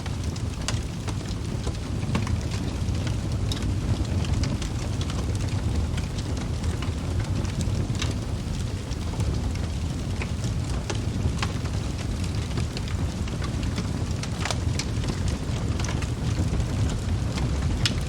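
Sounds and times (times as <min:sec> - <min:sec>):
logs crackling and popping: 0:00.0 - 0:18.0
low rush of flame: 0:00.0 - 0:18.0.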